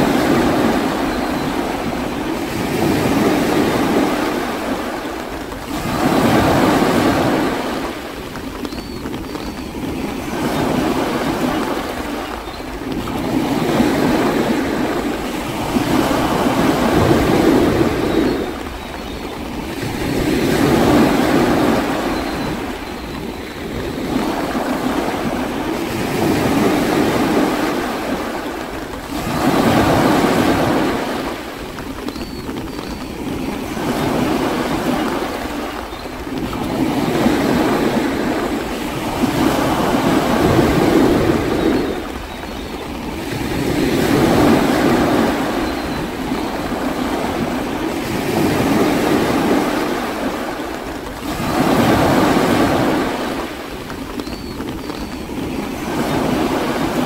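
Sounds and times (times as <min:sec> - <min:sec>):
waves breaking: 0:00.0 - 0:57.0.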